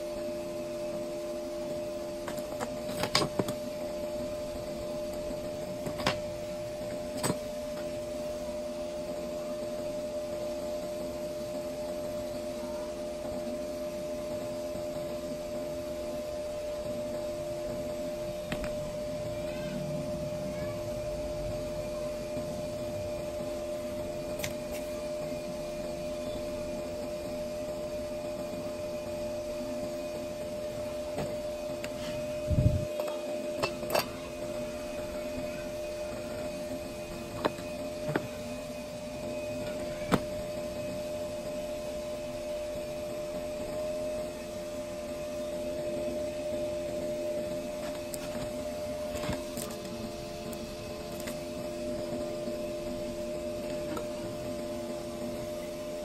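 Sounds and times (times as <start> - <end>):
small electric motor whirring: 0.0 - 56.0.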